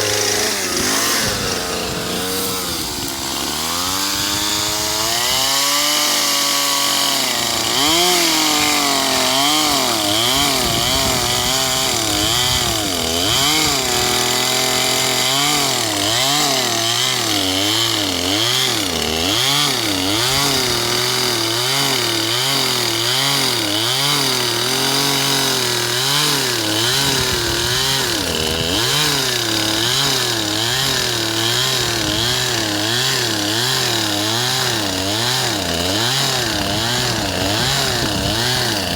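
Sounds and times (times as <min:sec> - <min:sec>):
chainsaw cutting tree: 0:00.0 - 0:38.9.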